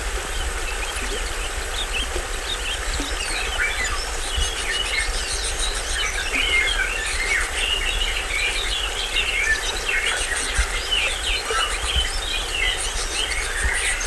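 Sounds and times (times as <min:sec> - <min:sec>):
small waterfall rushing: 0:00.0 - 0:14.0
birds chirping and calling: 0:00.2 - 0:14.0.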